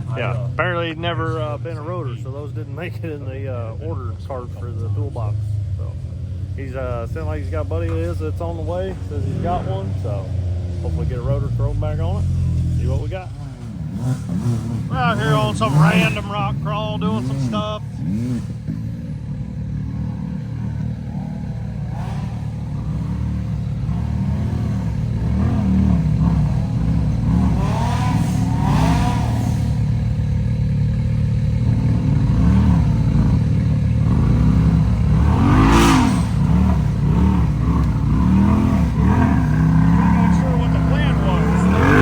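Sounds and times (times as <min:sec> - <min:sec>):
utility vehicle engine revving: 0:00.0 - 0:42.0.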